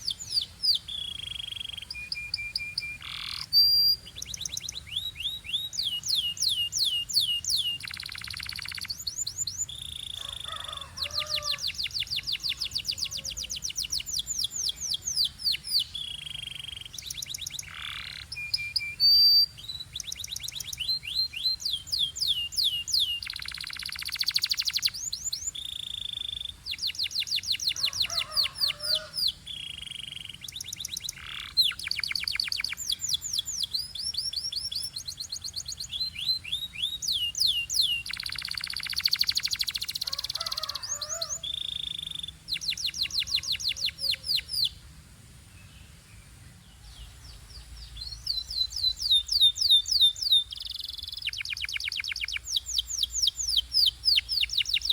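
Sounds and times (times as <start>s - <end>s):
canary singing trills: 0.0s - 44.8s, 46.8s - 54.9s.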